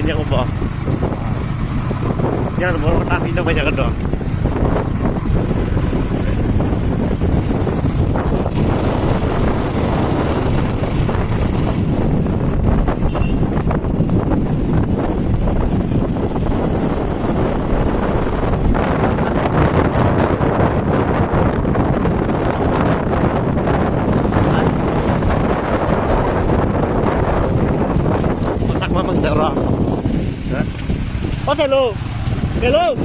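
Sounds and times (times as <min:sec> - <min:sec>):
motorcycle rumble: 0:00.0 - 0:33.0
wind buffeting microphone: 0:00.0 - 0:33.0.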